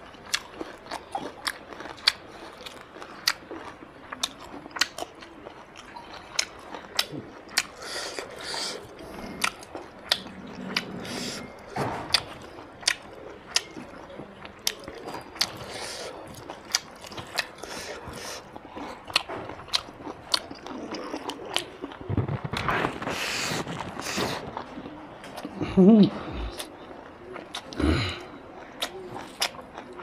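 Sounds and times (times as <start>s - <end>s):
person chewing and lip-smacking: 0.1s - 30.0s.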